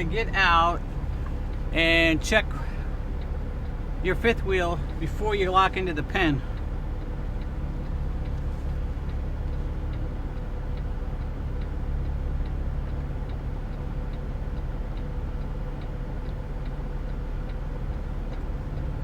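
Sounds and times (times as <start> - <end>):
diesel truck engine running: 0.0 - 19.0
light ticking: 0.0 - 19.0.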